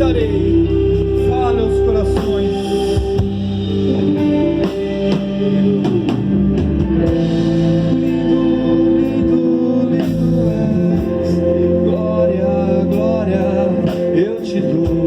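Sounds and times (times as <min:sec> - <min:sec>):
melody sliding in pitch: 0:00.0 - 0:14.4
sustained keyboard chords: 0:00.0 - 0:15.0.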